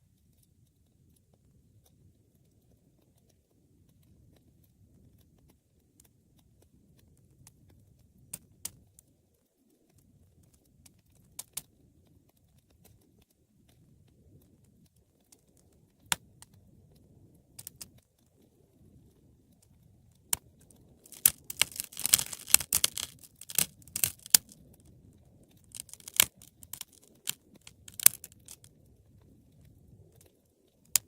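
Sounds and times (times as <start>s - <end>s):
low rumble of burning: 0.0s - 31.0s
wood fire crackling: 0.0s - 31.0s.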